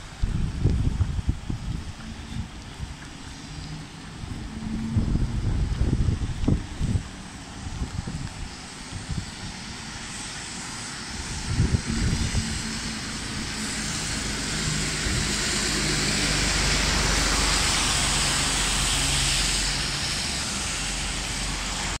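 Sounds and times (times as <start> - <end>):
heavy rain: 0.0 - 22.0
low hum of road traffic: 0.0 - 22.0
river rushing: 0.0 - 22.0
wind buffeting microphone: 0.0 - 22.0.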